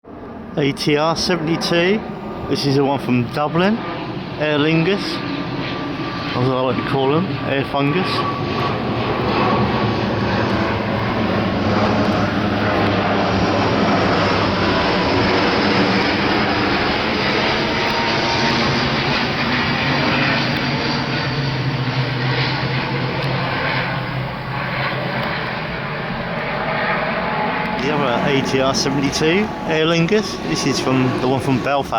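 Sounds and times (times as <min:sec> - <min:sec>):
turboprop engines droning: 0:00.1 - 0:31.9.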